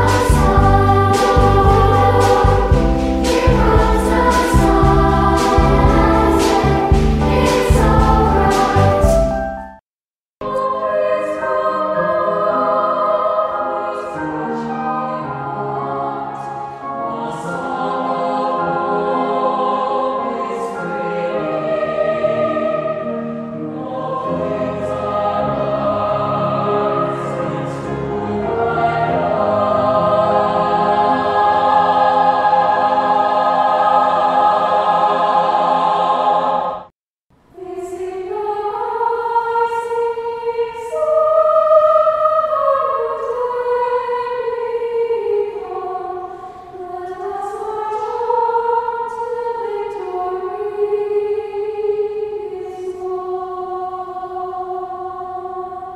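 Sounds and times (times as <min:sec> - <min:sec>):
children's choir singing: 0:00.0 - 0:09.5, 0:10.4 - 0:36.9, 0:37.5 - 0:55.9.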